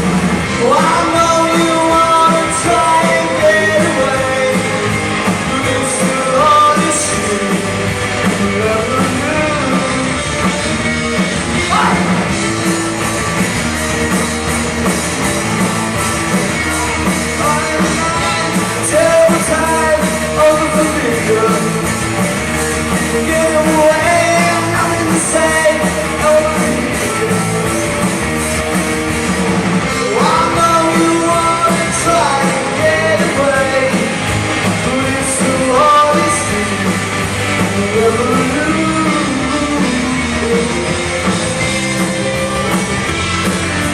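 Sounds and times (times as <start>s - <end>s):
live rock band playing: 0.0s - 43.9s
lead singer singing: 0.4s - 10.9s, 11.5s - 12.4s, 16.5s - 28.8s, 29.8s - 43.9s.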